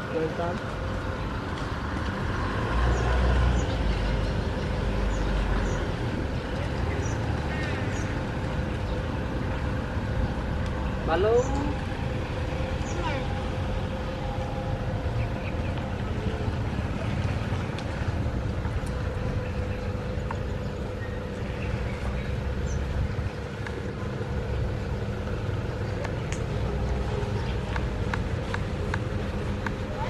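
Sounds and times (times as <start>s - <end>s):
motor rumble and hum: 0.0s - 30.0s.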